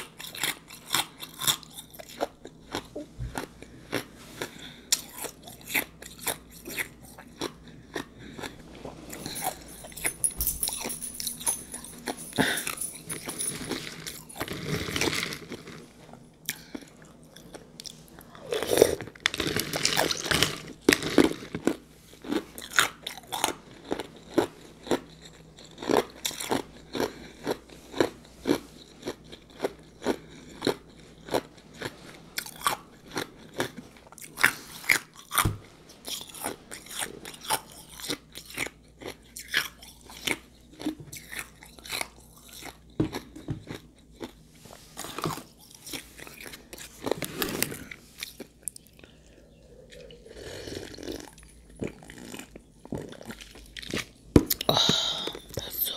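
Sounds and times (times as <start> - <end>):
ice being crunched and chewed: 0.0 - 35.4, 36.0 - 55.9.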